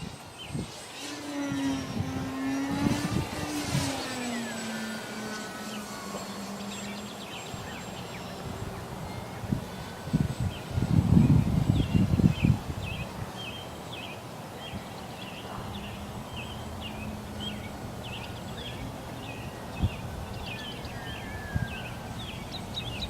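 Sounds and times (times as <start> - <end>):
bird chirping: 0.0 - 23.0.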